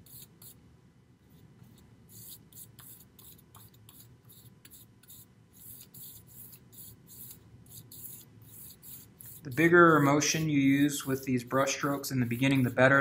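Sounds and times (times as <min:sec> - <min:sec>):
paintbrush swishing on board: 0:01.6 - 0:13.0.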